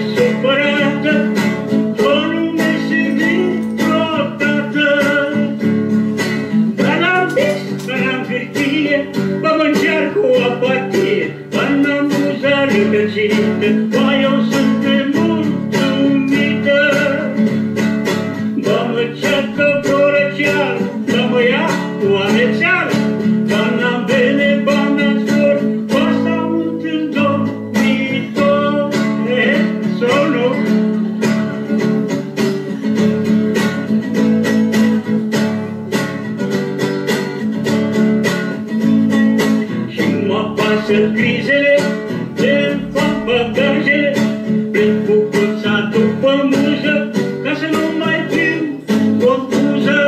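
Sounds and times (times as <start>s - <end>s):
person singing: 0.0s - 35.7s, 38.8s - 50.0s
strummed acoustic guitar: 0.0s - 50.0s.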